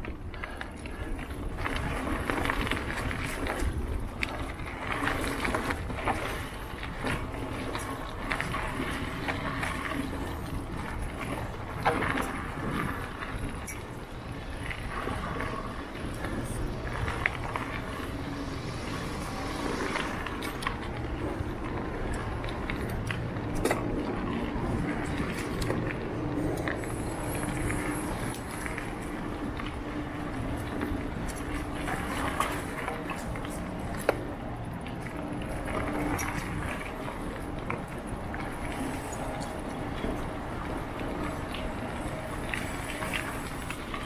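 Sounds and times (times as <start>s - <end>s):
bike rattles and knocks: 0.0s - 44.0s
bike tyres rolling on dirt: 0.0s - 44.0s.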